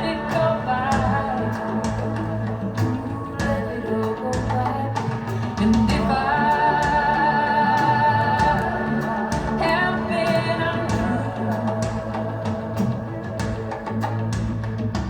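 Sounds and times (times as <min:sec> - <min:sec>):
woman singing long notes: 0:00.0 - 0:13.8
band with light percussion: 0:00.0 - 0:15.0.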